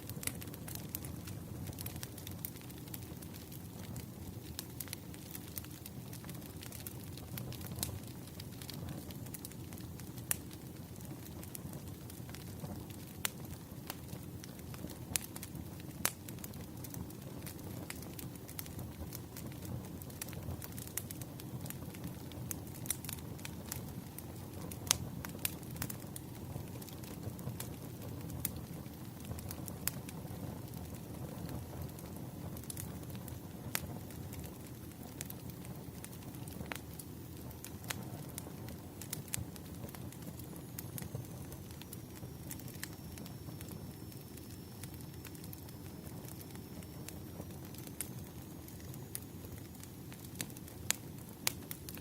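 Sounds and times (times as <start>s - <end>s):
burning logs crackling and popping: 0.0s - 52.0s
rumble of flames: 0.0s - 52.0s.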